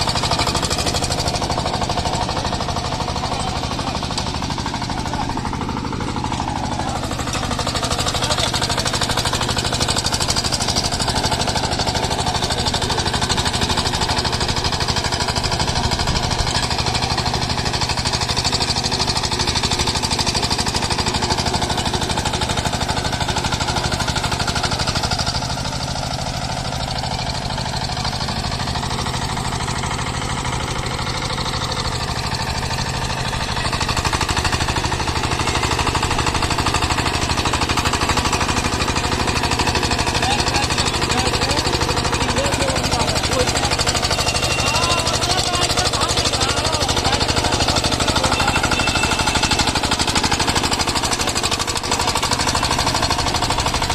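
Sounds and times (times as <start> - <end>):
diesel engine knocking: 0.0 - 53.9.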